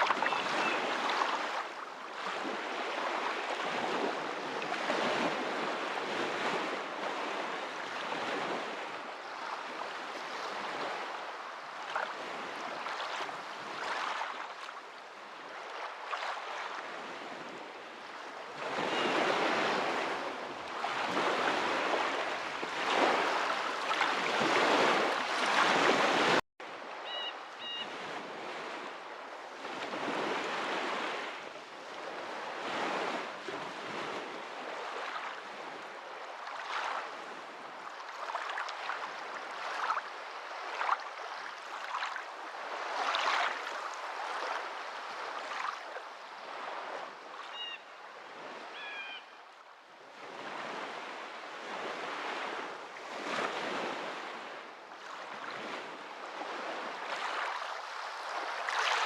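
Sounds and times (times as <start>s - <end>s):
water washing in swells: 0.0s - 47.8s, 50.3s - 59.0s.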